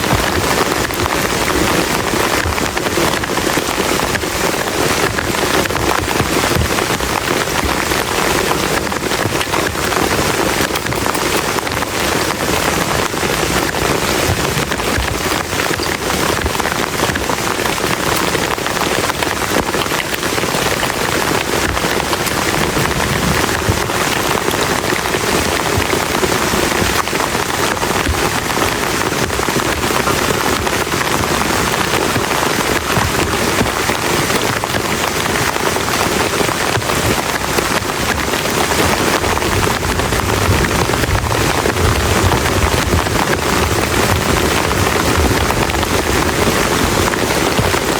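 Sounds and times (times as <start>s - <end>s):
heavy rain on shelter: 0.0s - 47.9s.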